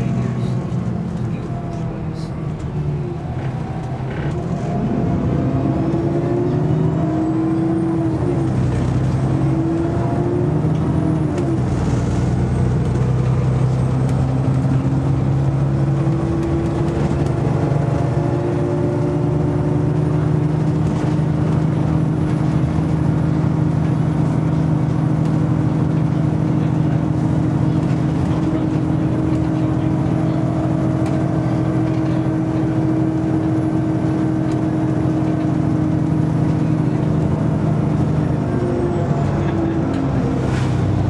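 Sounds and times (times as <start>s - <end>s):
bus engine accelerating: 0.0s - 41.0s.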